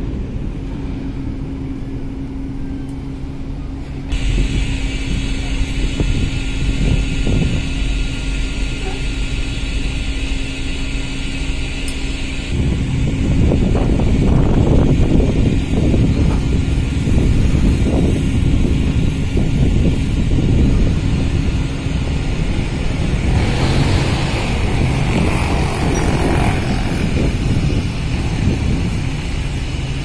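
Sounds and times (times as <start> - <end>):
wind buffeting microphone: 0.0 - 10.1, 12.5 - 30.0
ferry engines rumbling: 0.0 - 30.0.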